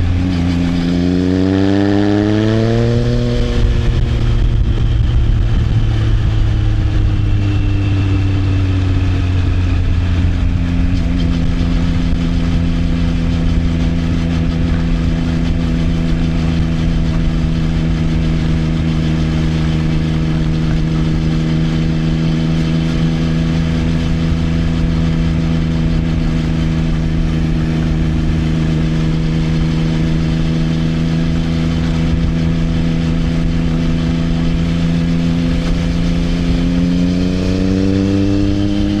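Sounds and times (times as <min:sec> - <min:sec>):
motorcycle engine cruising: 0:00.0 - 0:39.0.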